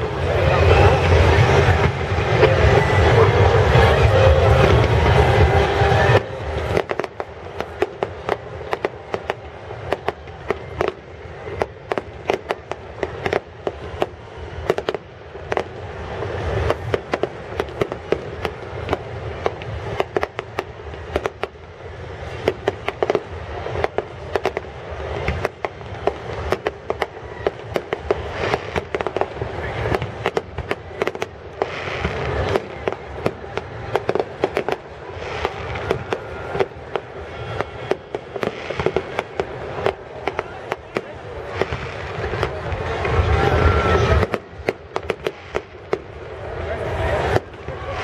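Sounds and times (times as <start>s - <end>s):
fireworks bangs and crackles: 0.0s - 48.0s
loud steady noise: 0.0s - 48.0s.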